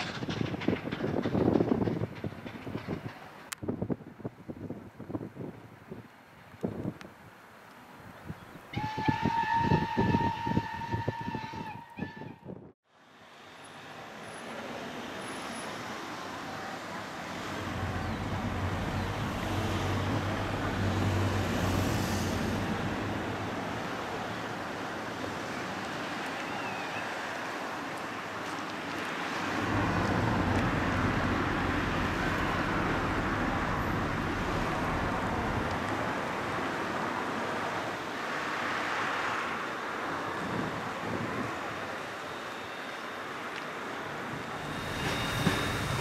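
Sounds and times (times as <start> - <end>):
steam train rumbling past: 0.0 - 4.2, 8.7 - 12.3, 13.7 - 27.8, 29.1 - 46.0.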